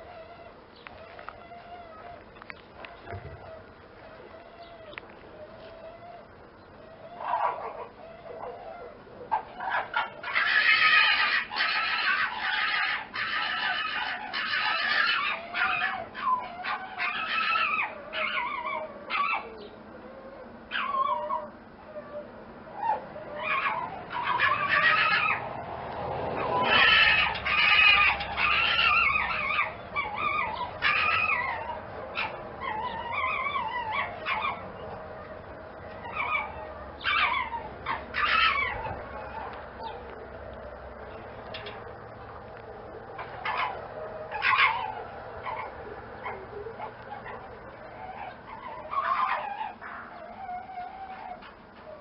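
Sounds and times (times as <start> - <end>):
fox yapping and crying: 0.0 - 42.2, 42.8 - 52.0.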